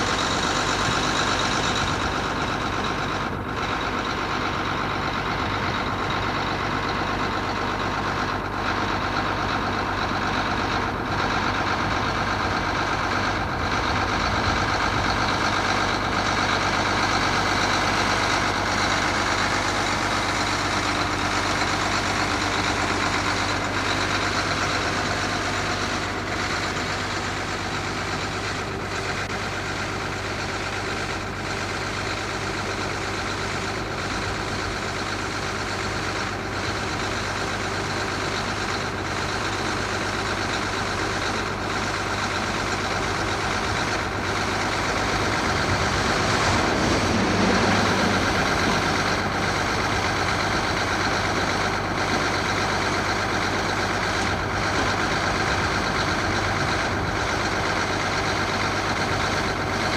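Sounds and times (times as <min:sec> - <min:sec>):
vehicle engine droning: 0:00.0 - 0:59.9.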